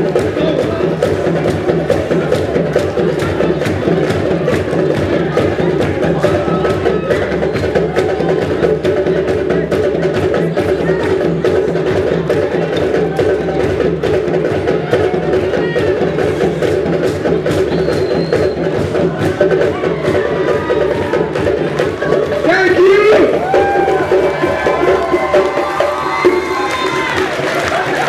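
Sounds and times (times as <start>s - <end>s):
percussion drums playing: 0.0s - 28.0s.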